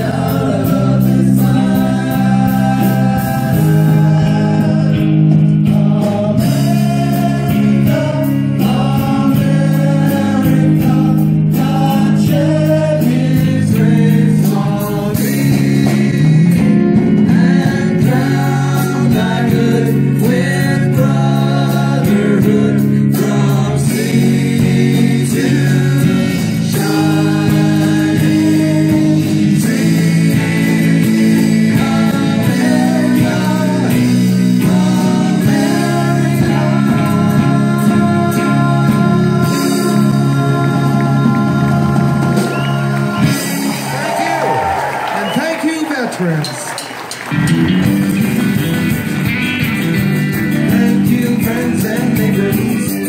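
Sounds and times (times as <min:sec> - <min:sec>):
electric guitars: 0:00.0 - 0:45.4, 0:46.1 - 0:53.0
people singing into microphones: 0:00.0 - 0:45.5, 0:50.5 - 0:53.0.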